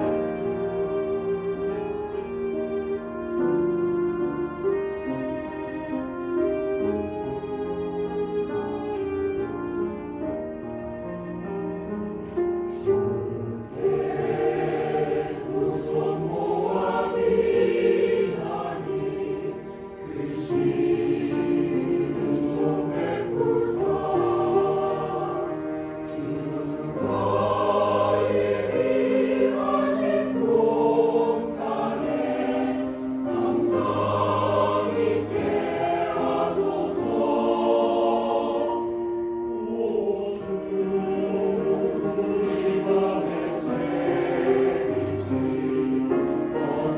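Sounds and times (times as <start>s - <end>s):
mixed choir singing: 0.0s - 10.7s, 11.4s - 46.9s
piano accompaniment: 0.0s - 46.9s.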